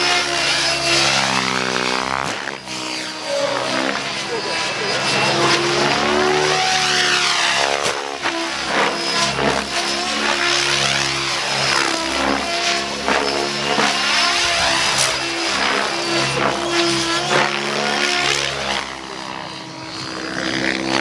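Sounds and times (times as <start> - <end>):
rc helicopter rotor and motor: 0.0 - 21.0.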